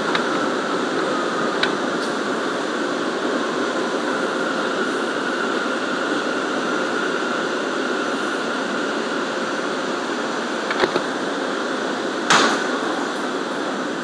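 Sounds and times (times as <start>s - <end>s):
subway wheels rumbling: 0.0s - 14.0s.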